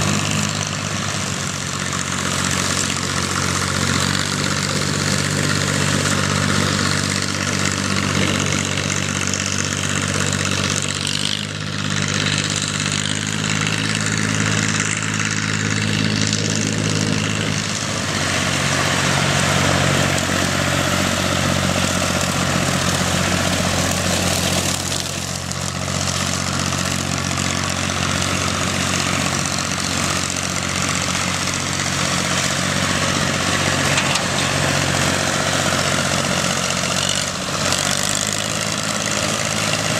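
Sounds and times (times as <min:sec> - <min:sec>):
mower slashing grass hiss: 0:00.0 - 0:39.9
tractor engine running: 0:00.0 - 0:39.9.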